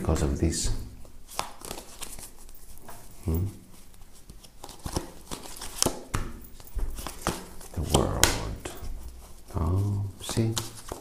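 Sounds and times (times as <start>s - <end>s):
cards shuffling: 1.3s - 11.0s.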